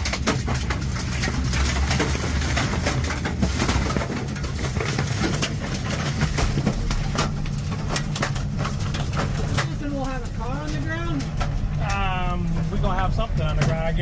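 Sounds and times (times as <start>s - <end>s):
debris knocking on windows: 0.0s - 14.0s
steady low rumble: 0.0s - 14.0s.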